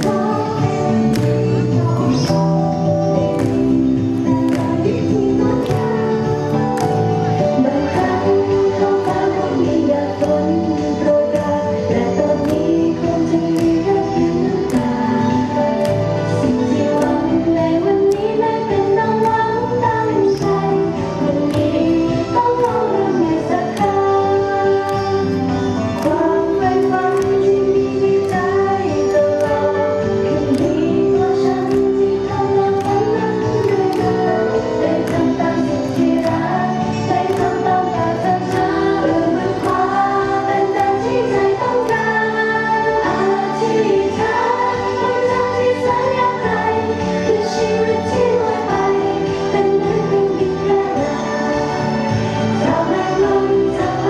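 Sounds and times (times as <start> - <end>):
backing track with steady beat: 0.0 - 54.0
women singing pop song: 0.0 - 54.0.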